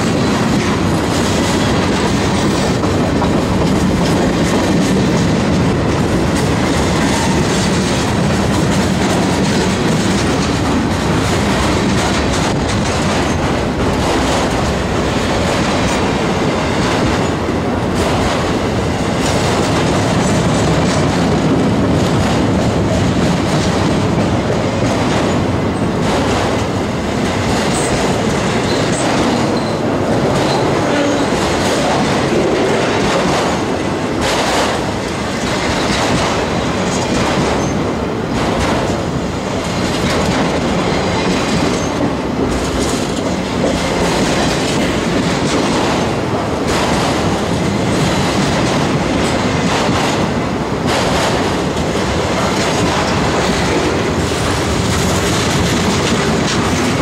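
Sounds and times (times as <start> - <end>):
freight train rolling past: 0.0 - 57.0
wheels clickety-clack on rail joints: 0.0 - 57.0.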